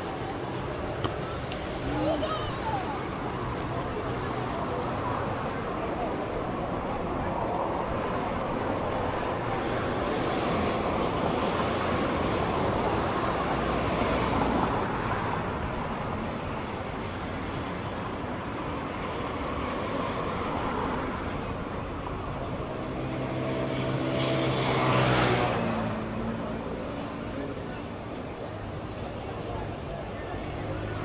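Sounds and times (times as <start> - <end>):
vehicles passing on a street: 0.0 - 31.0.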